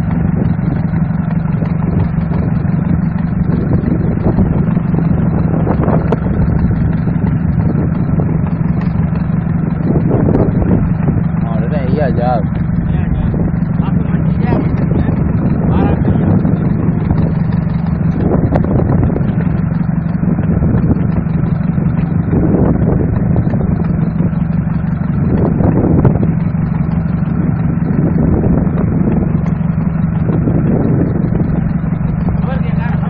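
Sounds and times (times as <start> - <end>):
boat engine running: 0.0 - 33.0
rushes of noise: 0.0 - 33.0.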